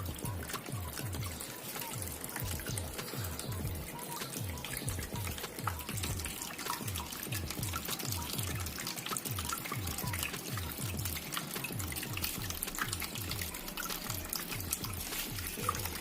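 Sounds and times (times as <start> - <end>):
background music with low beat: 0.0 - 16.0
water dripping: 0.0 - 16.0
water trickling and splashing: 0.0 - 16.0.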